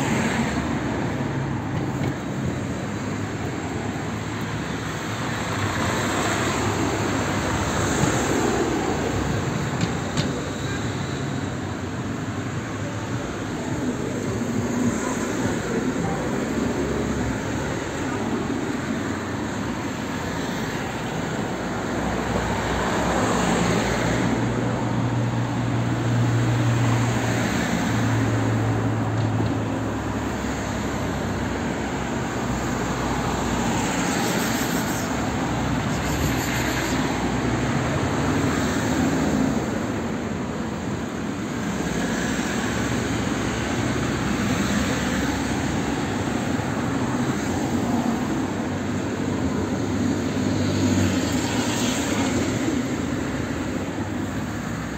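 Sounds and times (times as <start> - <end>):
outdoor traffic noise: 0.0 - 54.9.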